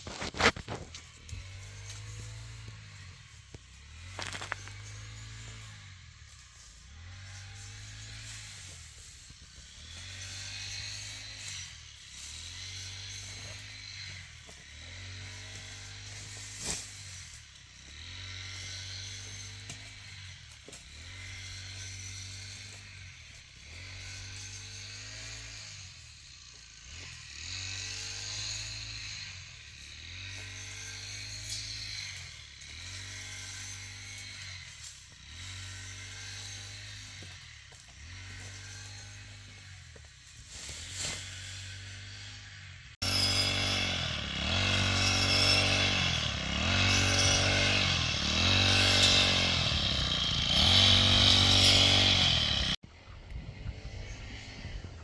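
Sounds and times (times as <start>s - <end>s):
engine running under changing load: 0.1s - 26.2s, 27.0s - 52.8s.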